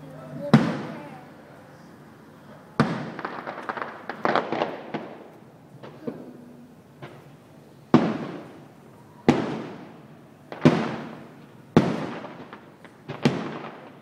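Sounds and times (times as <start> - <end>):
firework booms with echo: 0.4 - 1.2, 2.7 - 6.4, 7.0 - 14.0.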